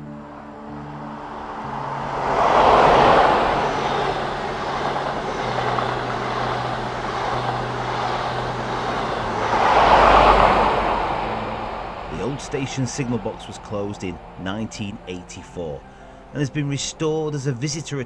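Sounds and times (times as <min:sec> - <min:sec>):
train passing at speed: 0:00.0 - 0:17.6.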